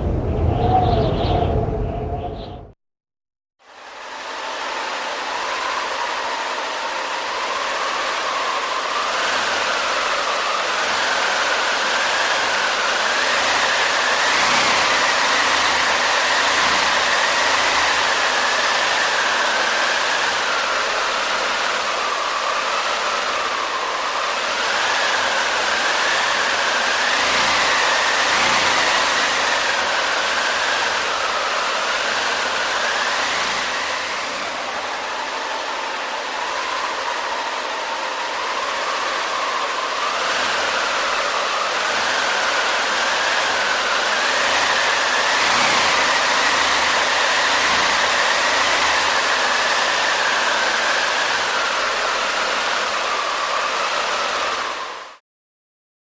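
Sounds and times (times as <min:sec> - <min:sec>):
wind gusting and howling: 0:00.0 - 0:02.8, 0:03.7 - 0:55.2.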